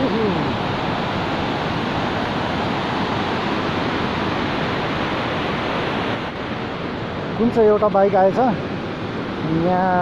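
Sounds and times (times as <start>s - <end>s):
river rushing over boulders: 0.0s - 10.0s.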